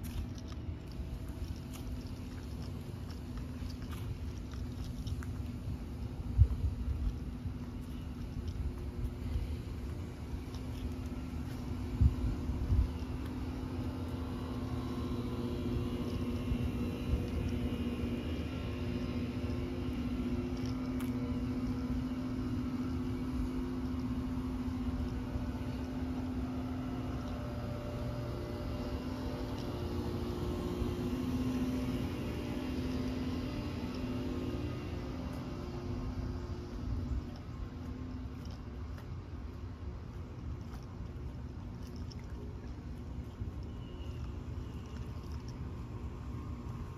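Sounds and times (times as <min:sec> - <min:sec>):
air conditioner units humming: 0:00.0 - 0:46.9.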